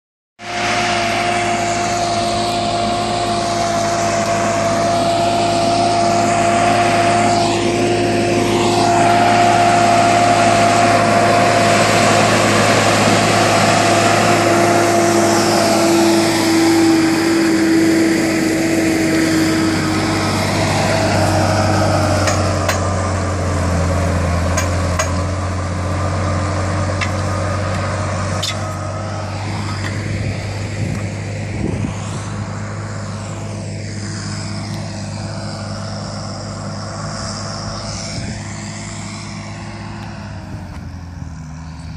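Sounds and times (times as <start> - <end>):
tractor diesel engine whining: 0.4 - 41.9.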